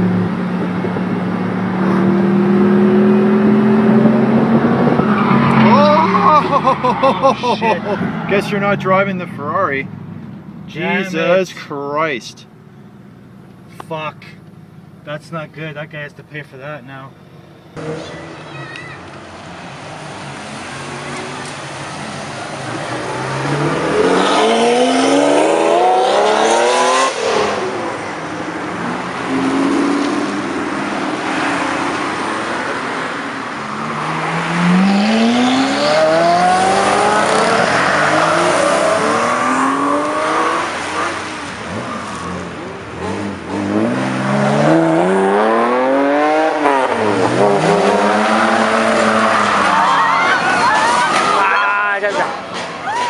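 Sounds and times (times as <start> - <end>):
sports car engines revving: 0.0 - 52.8.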